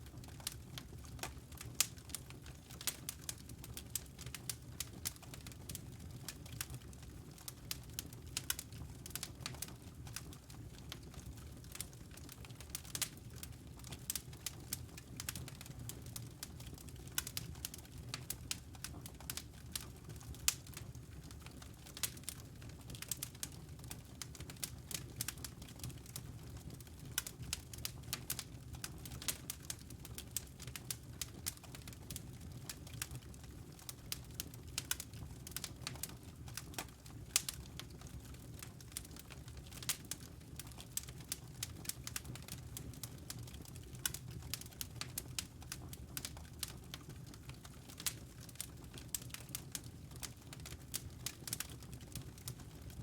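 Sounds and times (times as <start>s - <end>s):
logs burning with crackles and pops: 0.0s - 53.0s.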